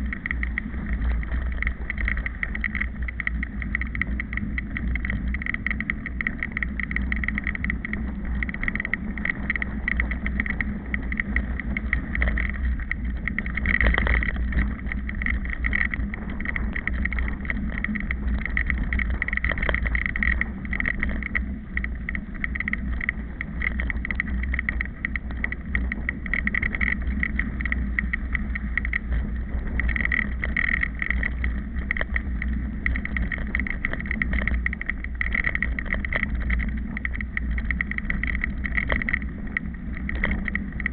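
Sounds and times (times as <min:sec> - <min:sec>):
bike frame and tyres rattling: 0:00.0 - 0:40.9
wind rumbling on microphone: 0:00.0 - 0:40.9.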